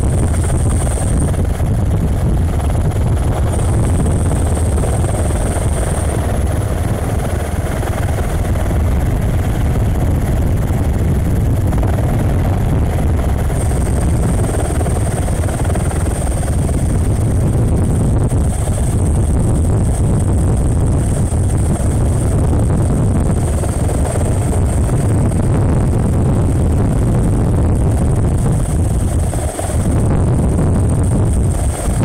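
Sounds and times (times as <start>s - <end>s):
helicopter rotor and engine drone: 0.0s - 32.0s.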